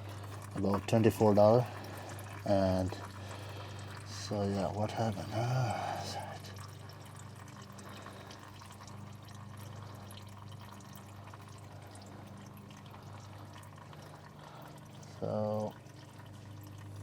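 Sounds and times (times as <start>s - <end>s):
low steady hum: 0.0s - 17.0s
oil pouring into drain pan: 0.0s - 17.0s.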